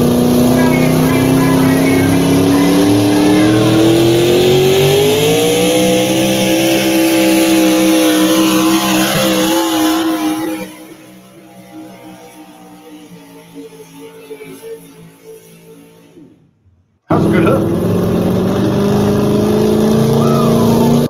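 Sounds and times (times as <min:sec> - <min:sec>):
tractor engine at high revs: 0:00.0 - 0:16.4, 0:17.1 - 0:21.0.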